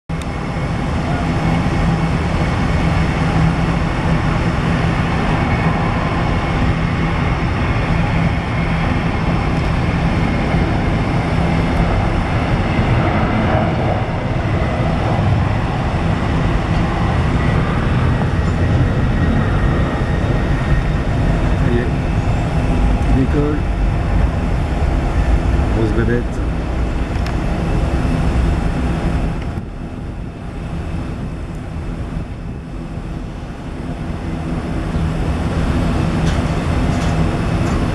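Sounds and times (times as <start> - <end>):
jet engines rumbling: 0.1 - 37.9.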